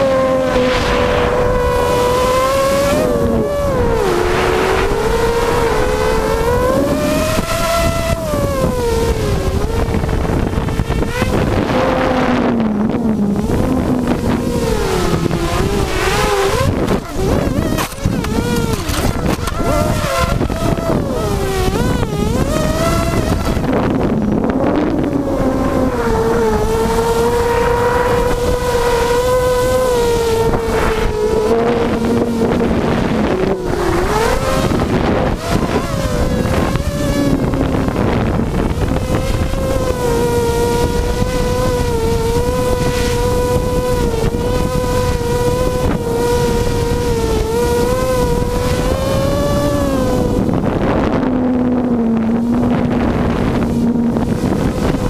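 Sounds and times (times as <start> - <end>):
drone motors buzzing whine: 0.0 - 55.0
wind rumble on microphone: 0.0 - 55.0.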